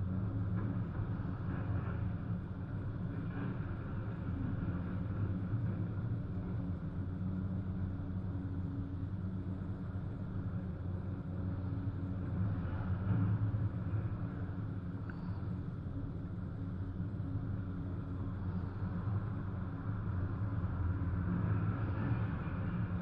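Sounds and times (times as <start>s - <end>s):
excavator diesel engines drone: 0.0s - 23.0s.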